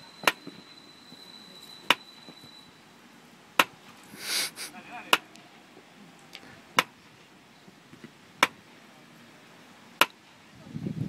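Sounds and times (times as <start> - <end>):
murmur of noise: 0.0 - 11.0.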